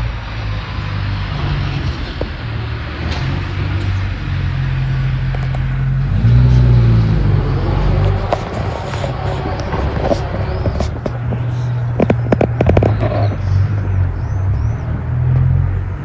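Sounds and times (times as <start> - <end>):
motor engine drone: 0.0 - 16.0.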